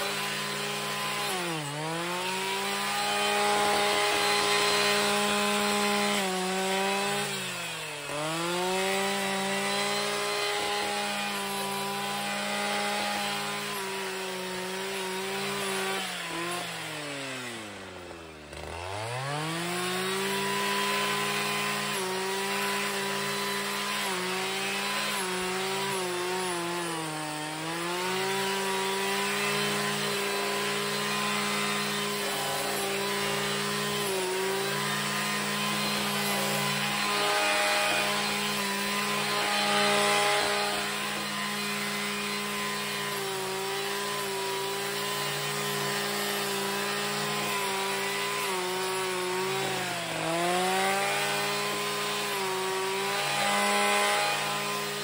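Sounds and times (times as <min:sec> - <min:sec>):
blade cutting thick stalks: 0:00.0 - 0:55.0
brushcutter engine at high revs: 0:00.0 - 0:55.0.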